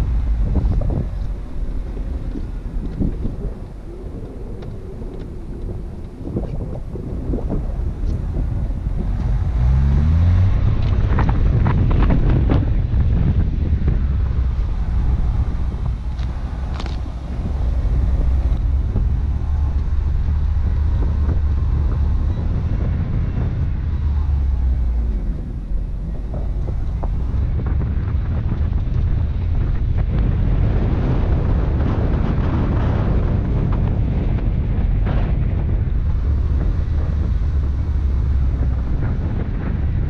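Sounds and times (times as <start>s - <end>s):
car engine rumble: 0.0s - 40.0s
wind buffeting microphone: 0.0s - 40.0s.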